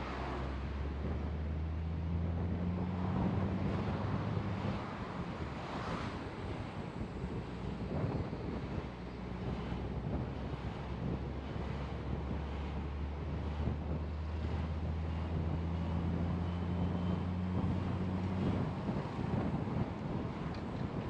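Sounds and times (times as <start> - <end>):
low engine hum: 0.0 - 21.0
road and wind noise: 0.0 - 21.0.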